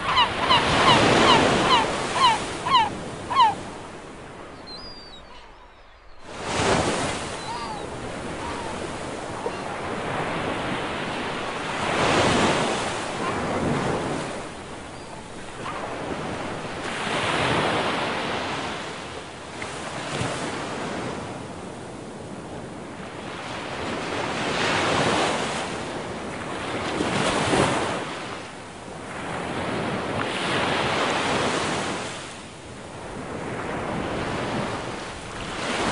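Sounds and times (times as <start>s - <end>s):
waves breaking: 0.0s - 22.6s, 23.2s - 35.9s.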